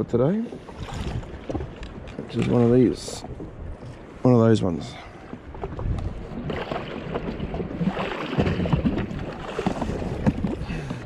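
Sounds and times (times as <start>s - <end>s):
water lapping against hull: 0.0s - 11.0s
wind on microphone: 0.7s - 11.0s.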